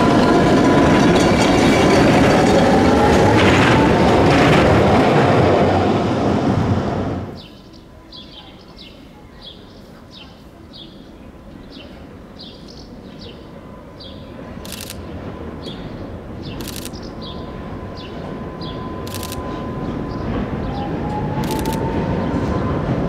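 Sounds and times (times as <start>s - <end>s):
low street rumble: 0.0s - 23.0s
tram approaching: 0.0s - 23.0s.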